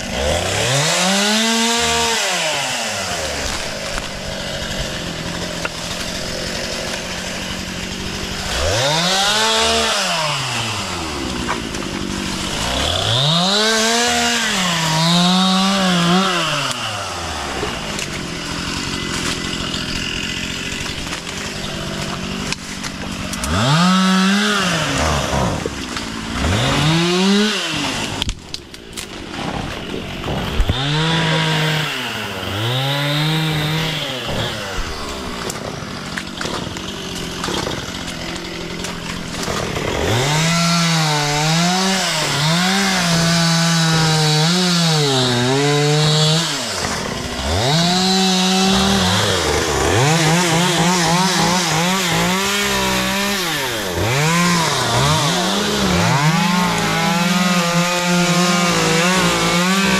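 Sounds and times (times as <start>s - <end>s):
chainsaw idling and revving: 0.0s - 59.9s.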